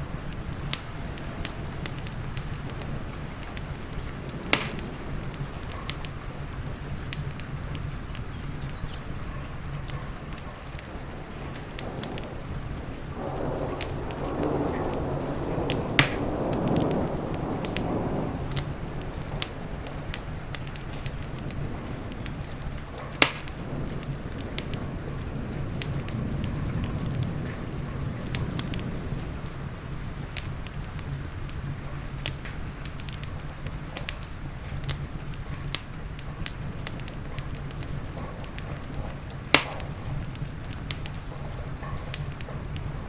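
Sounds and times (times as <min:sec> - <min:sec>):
loud fire pops: 0:00.0 - 0:43.0
rain: 0:00.0 - 0:43.0
wood fire crackling: 0:00.0 - 0:43.0.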